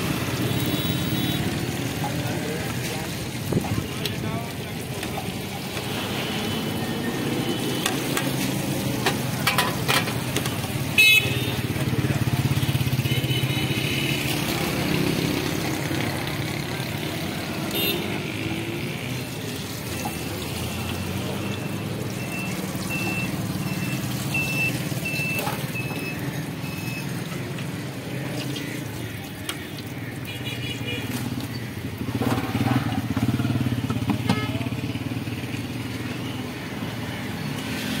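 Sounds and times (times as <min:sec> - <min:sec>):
motorcycle engines running: 0:00.0 - 0:38.0
street traffic: 0:00.0 - 0:38.0
deep-frying in hot oil: 0:01.2 - 0:34.1, 0:34.8 - 0:38.0.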